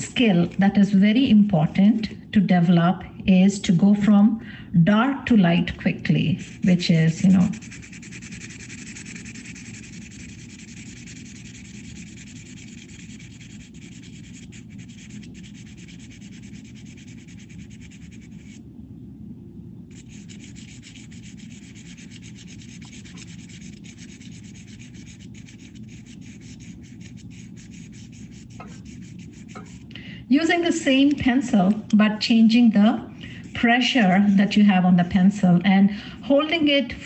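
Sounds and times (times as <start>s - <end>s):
pencil scratching on paper: 0.0s - 2.2s, 5.7s - 18.6s, 19.9s - 29.9s, 30.5s - 36.7s.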